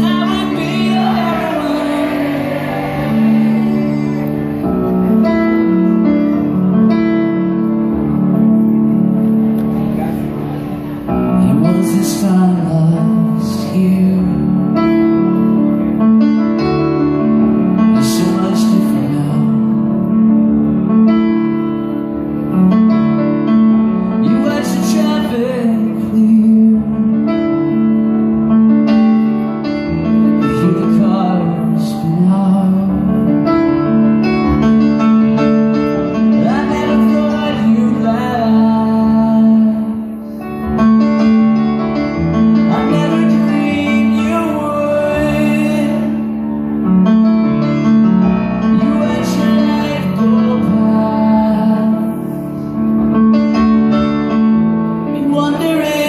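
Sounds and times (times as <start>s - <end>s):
live rock band with piano: 0.0s - 56.0s.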